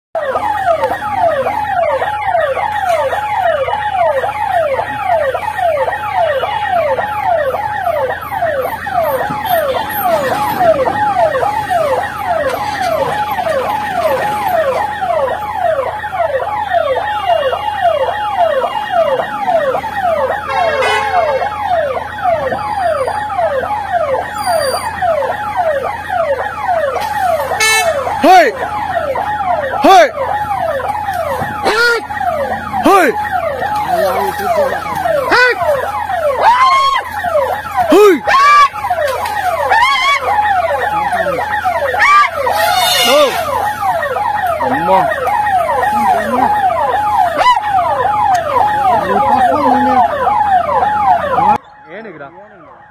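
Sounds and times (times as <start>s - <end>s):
electronic siren wailing: 0.2s - 52.9s.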